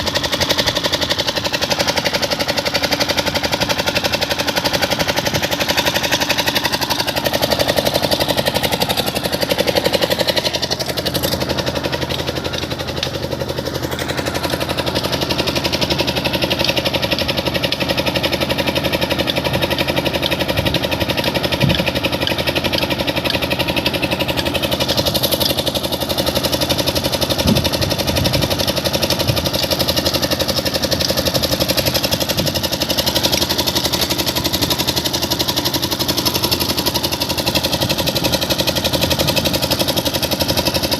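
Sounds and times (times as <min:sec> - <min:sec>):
crane engine droning: 0:00.0 - 0:40.9.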